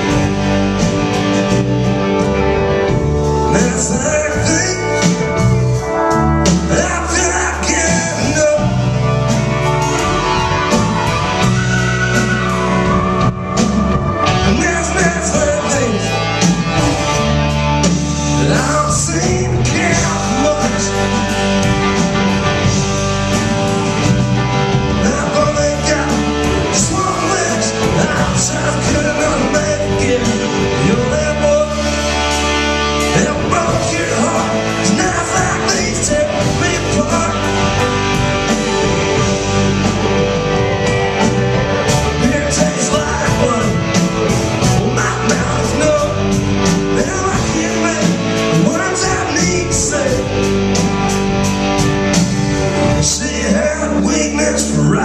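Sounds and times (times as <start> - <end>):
rock band playing live: 0.0 - 55.0.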